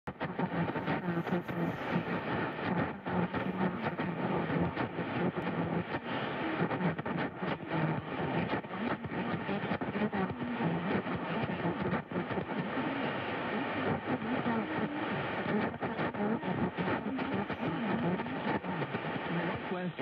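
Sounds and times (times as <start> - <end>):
radio static with crackles: 0.0 - 20.0
garbled radio chatter: 0.1 - 20.0.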